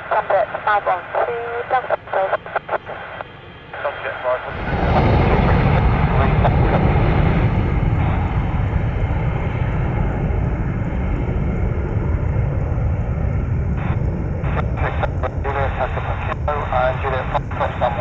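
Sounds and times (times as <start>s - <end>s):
jet airliner engines: 0.0s - 18.0s.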